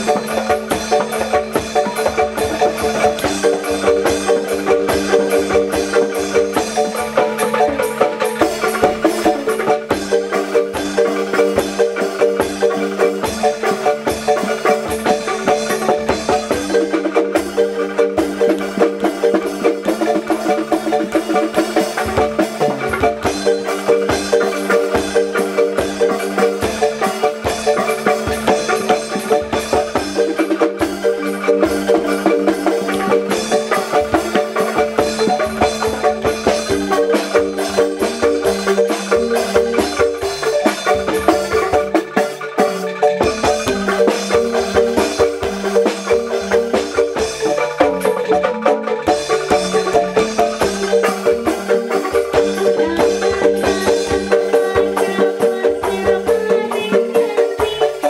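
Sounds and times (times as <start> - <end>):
mallet percussion melody: 0.0 - 58.0.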